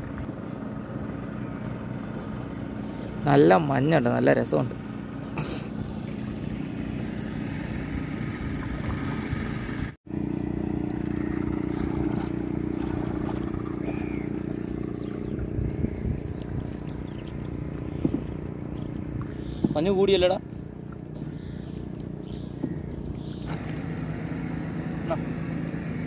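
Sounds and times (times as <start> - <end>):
engine hum: 0.0 - 26.0.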